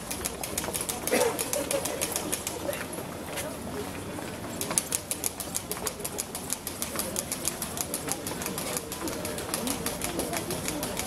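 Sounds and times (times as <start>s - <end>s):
footsteps on cobblestones: 0.0s - 11.0s
murmur of voices: 0.0s - 11.0s.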